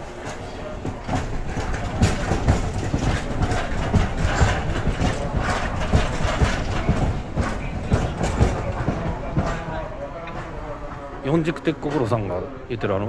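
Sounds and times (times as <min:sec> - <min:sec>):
streetcar wheels clattering: 0:00.0 - 0:13.0.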